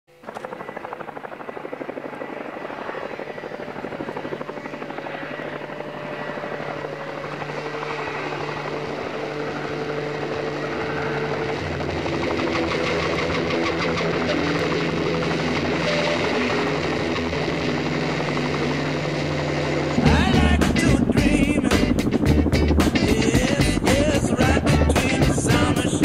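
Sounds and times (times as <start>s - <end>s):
helicopter engine whine: 0.1s - 26.0s
helicopter rotor chop: 0.1s - 26.0s.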